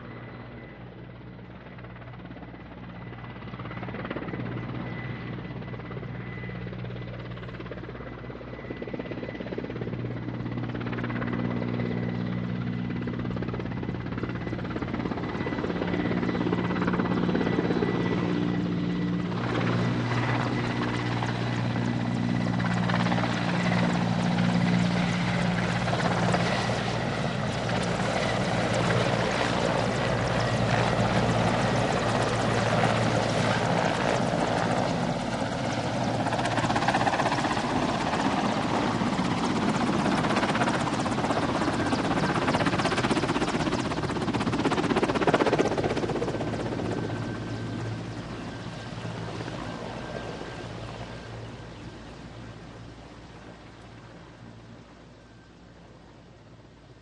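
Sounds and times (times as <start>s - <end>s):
helicopter engines and rotor: 0.0s - 57.0s.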